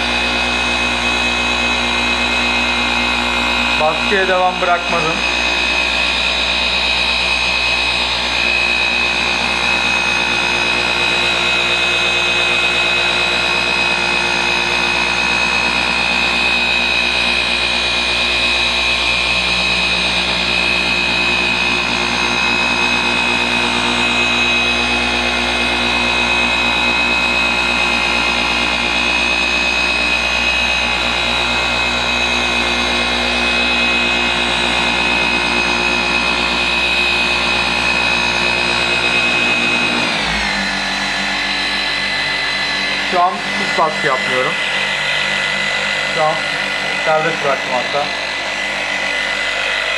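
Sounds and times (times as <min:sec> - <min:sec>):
orbital polisher motor drone: 0:00.0 - 0:49.9.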